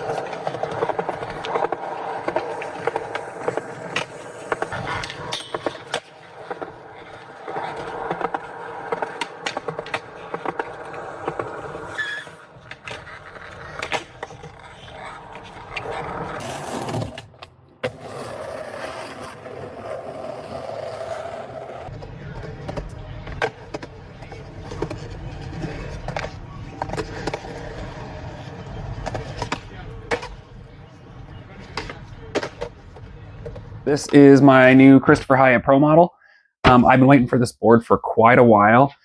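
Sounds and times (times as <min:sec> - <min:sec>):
skateboard clacks: 0:00.0 - 0:19.4, 0:21.8 - 0:34.2
skateboard wheels rolling: 0:00.0 - 0:34.9.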